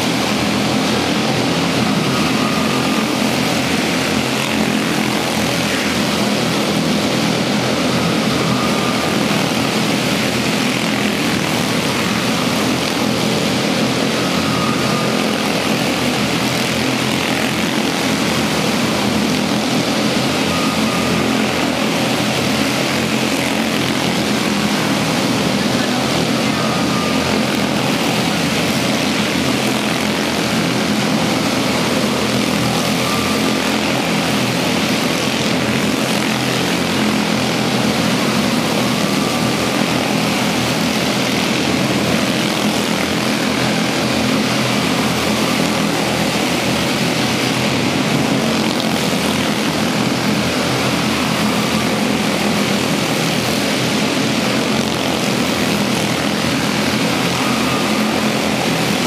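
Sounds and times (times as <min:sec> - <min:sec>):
small race car engines buzzing: 0:00.0 - 0:59.0.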